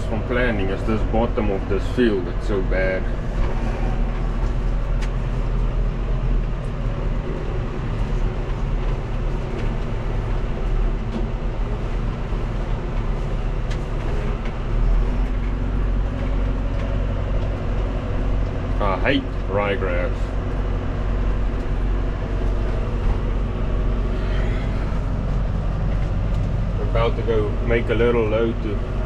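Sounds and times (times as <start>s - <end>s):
farm machine engine droning: 0.0s - 29.0s.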